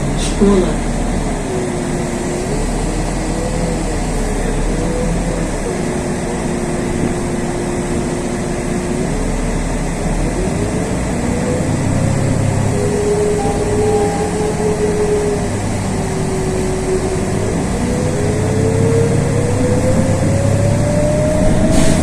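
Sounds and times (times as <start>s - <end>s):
bus engine drone with whine: 0.0s - 22.0s.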